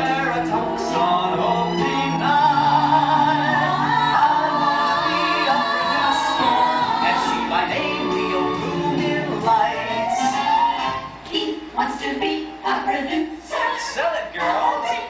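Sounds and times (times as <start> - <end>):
musical accompaniment: 0.0 - 15.0
vocal group singing in harmony: 0.0 - 15.0.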